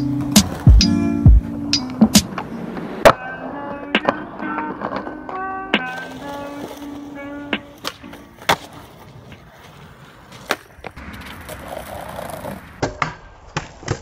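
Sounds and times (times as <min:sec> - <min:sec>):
skateboard tail clacking: 0:00.0 - 0:01.0, 0:01.6 - 0:14.0
skateboard wheels rolling on pavement: 0:00.0 - 0:14.0.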